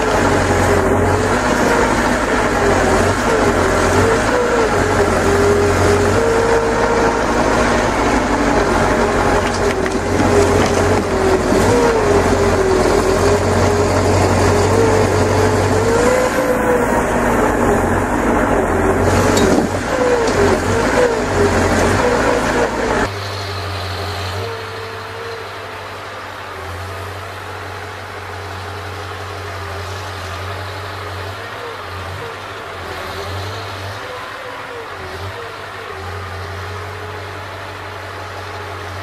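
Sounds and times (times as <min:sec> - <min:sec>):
diesel truck engine running: 0:00.0 - 0:39.0
loader crane hydraulics whining: 0:00.0 - 0:39.0.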